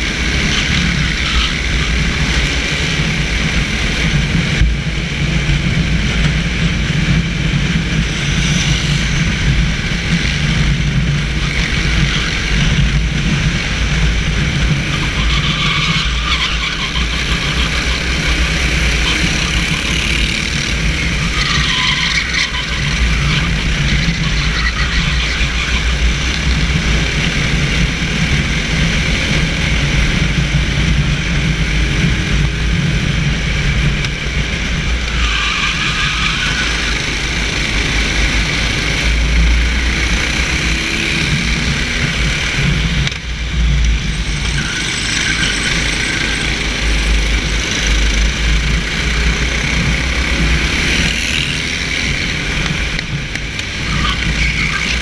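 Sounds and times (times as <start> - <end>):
kart engine running: 0.0 - 55.0.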